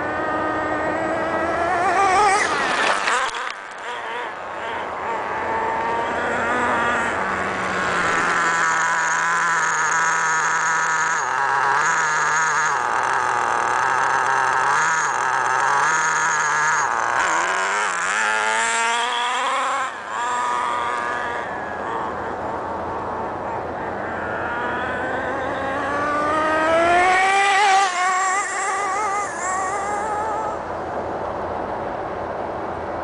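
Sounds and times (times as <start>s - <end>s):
toy truck engine screaming: 0.0s - 30.8s.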